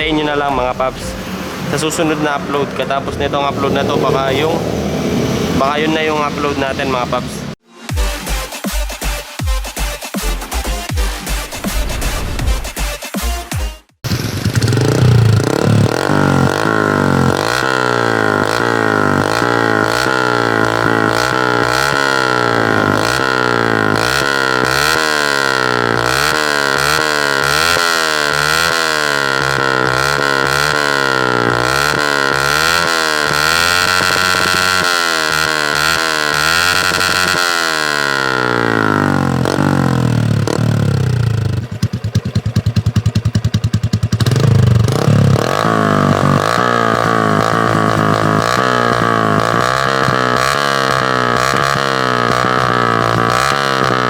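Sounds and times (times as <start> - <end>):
motorcycle engine revving: 0.0 - 7.6, 14.0 - 54.0.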